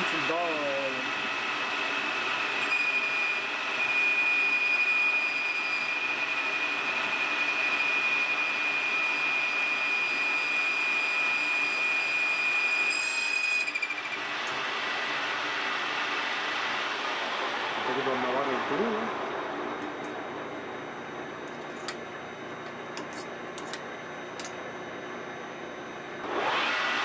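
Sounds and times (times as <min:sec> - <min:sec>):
lathe cutting metal with whine: 0:00.0 - 0:22.0, 0:26.2 - 0:27.0.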